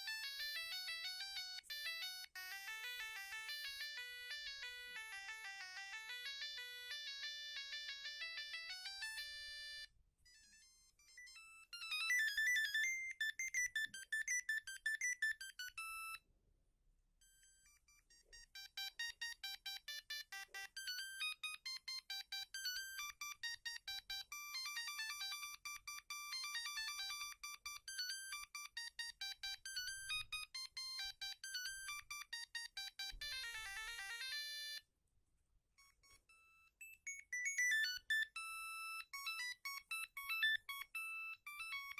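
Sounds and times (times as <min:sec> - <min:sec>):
mobile phone ringtones: 0:00.0 - 0:16.2, 0:17.2 - 0:34.9, 0:35.8 - 0:41.9.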